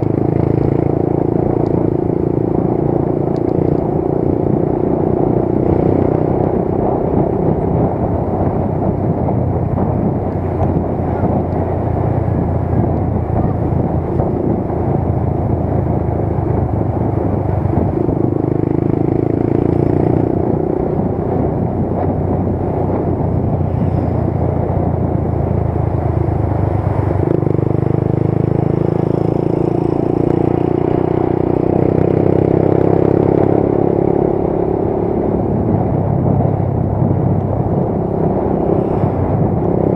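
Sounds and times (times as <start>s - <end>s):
motorcycle engine drone: 0.0s - 39.9s
road and wind noise: 0.0s - 39.9s.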